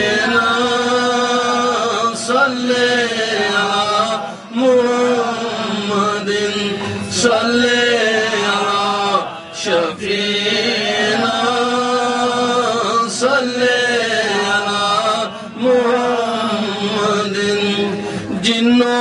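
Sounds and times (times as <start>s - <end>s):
men chanting devotional song: 0.0s - 19.0s.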